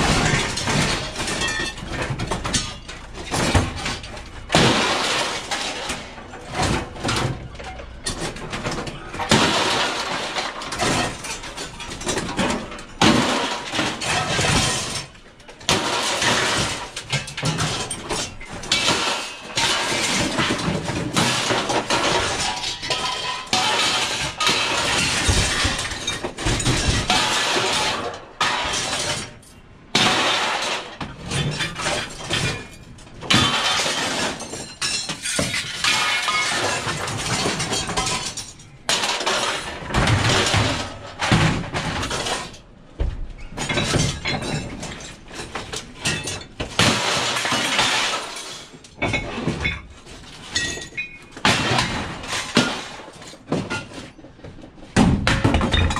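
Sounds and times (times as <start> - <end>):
scrap steel crashing onto pile: 0.0 - 55.9.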